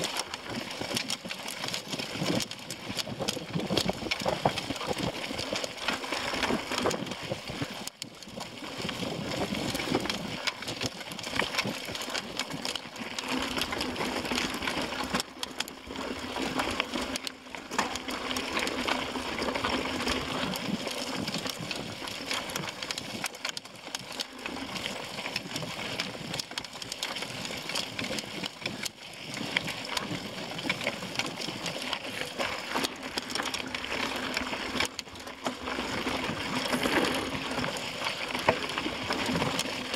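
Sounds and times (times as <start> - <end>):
bike rattling: 0.0 - 39.9
tyres crunching over gravel: 0.0 - 39.9.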